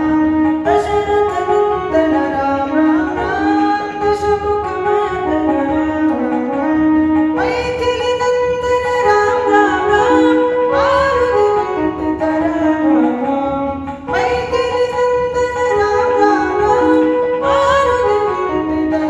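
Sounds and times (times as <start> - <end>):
electronic keyboard melody: 0.0 - 19.0.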